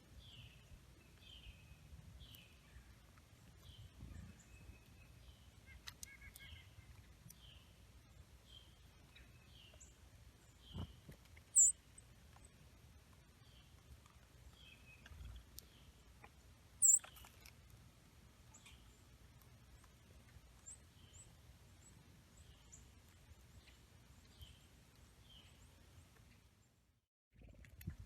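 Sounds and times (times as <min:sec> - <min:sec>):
songbirds calling: 0:00.1 - 0:17.7, 0:18.4 - 0:26.7.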